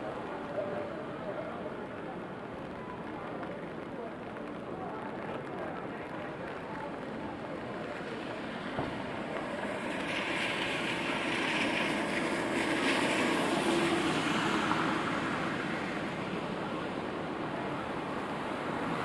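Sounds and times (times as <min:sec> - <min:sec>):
steady rain: 0:00.0 - 0:19.0
vehicle tyres hissing on wet street: 0:00.0 - 0:19.0.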